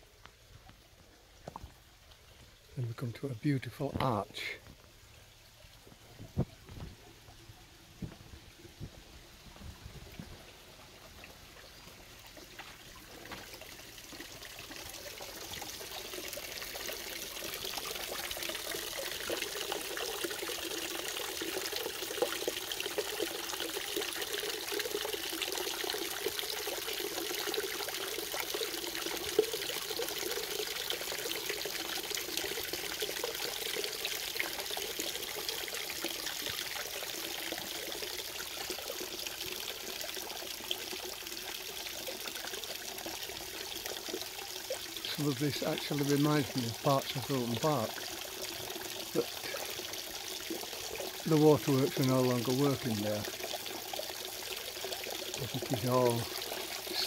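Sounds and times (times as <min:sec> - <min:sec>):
small waterfall splashing: 0:03.4 - 0:57.0.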